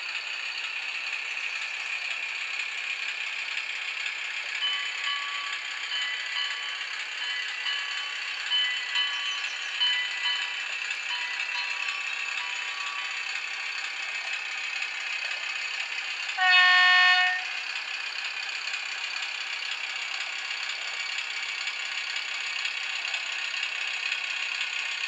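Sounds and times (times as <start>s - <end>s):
model train engine sound: 0.0s - 25.0s.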